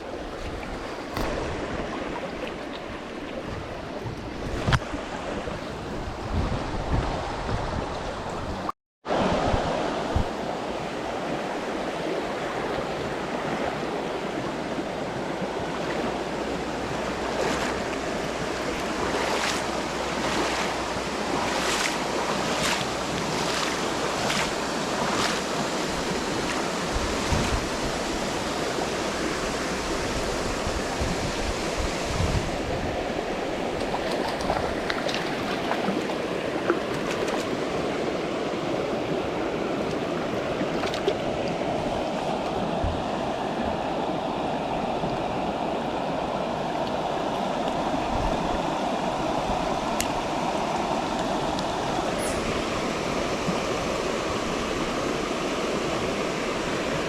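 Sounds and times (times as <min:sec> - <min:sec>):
wind noise on microphone: 0:00.0 - 0:36.1, 0:47.0 - 0:57.0
flowing water rushing: 0:00.0 - 0:57.0.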